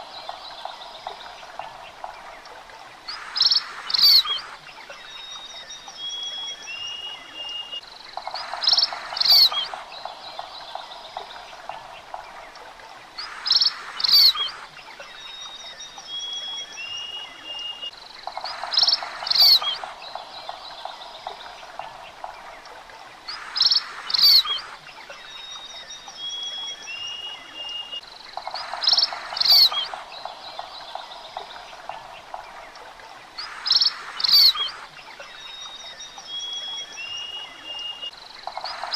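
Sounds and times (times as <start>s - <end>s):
faint hiss: 0.0s - 38.9s
bird chirping: 3.1s - 12.2s, 13.2s - 38.9s.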